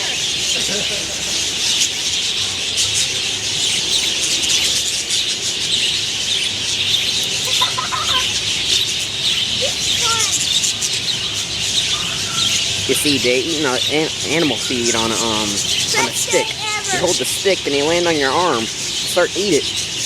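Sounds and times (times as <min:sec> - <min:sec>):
lower whistled bird calls: 0:00.0 - 0:20.0
parakeets chattering: 0:00.0 - 0:20.0.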